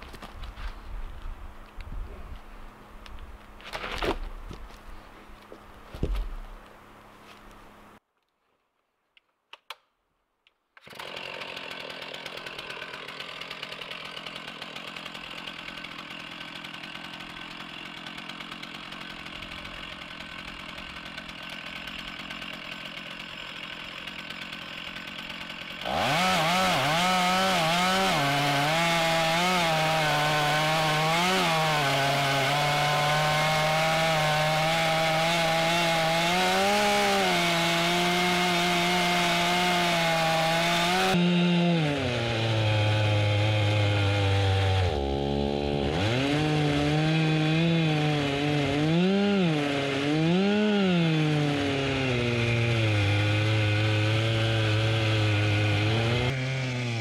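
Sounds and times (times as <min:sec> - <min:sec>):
chainsaw cutting a log: 0:10.8 - 0:57.0.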